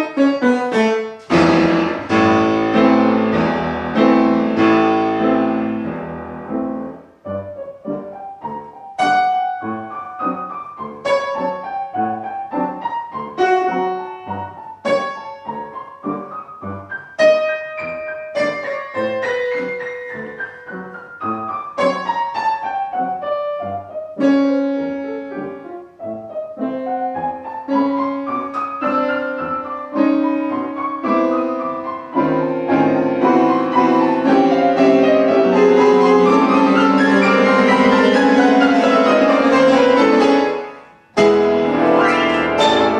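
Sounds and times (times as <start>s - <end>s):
classical piano music: 0.0s - 42.9s.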